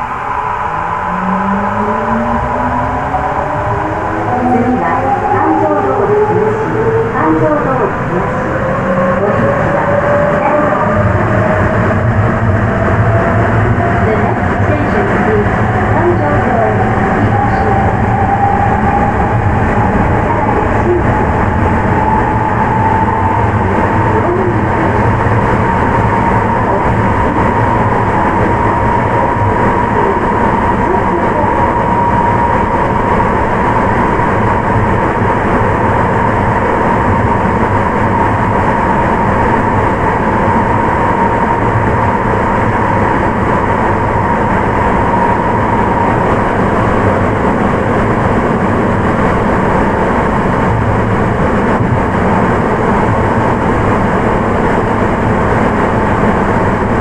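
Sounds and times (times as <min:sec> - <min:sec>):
subway train rumble: 0:00.0 - 0:57.0.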